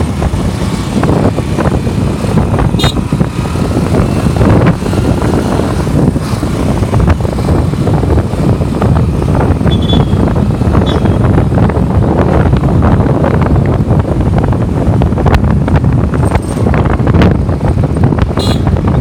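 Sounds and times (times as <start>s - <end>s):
traffic engines rumbling: 0.0s - 19.0s.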